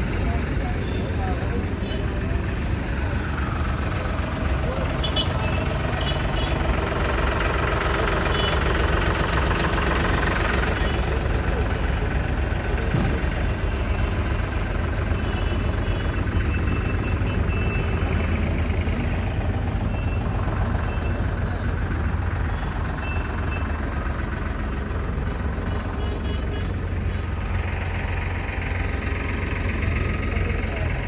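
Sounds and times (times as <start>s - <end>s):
tractor engine idling: 0.0s - 31.0s.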